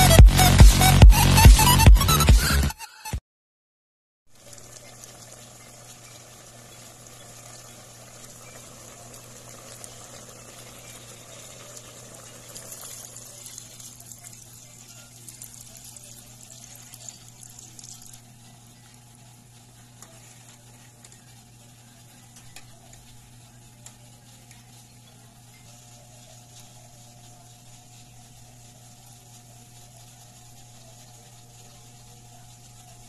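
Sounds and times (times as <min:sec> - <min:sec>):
pot of water hissing: 0:04.3 - 0:33.0.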